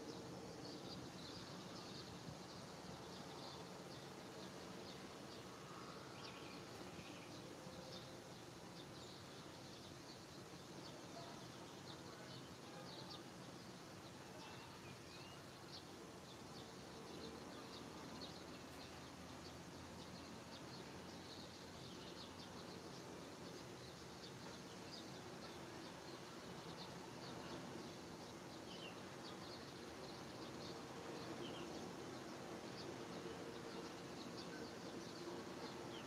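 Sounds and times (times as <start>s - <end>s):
faint birds chirping: 0.0s - 36.0s
low steady background hiss: 0.0s - 36.0s.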